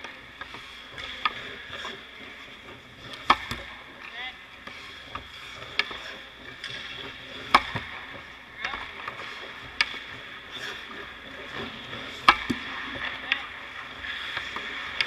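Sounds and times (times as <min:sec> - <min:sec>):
hockey pucks cracking off sticks: 0:00.0 - 0:15.0.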